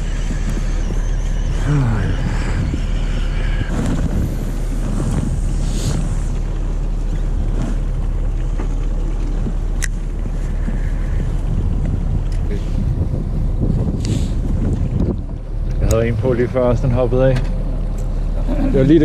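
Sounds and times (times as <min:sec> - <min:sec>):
boat rumble: 0:00.0 - 0:19.0
wind buffeting microphone: 0:00.0 - 0:19.0.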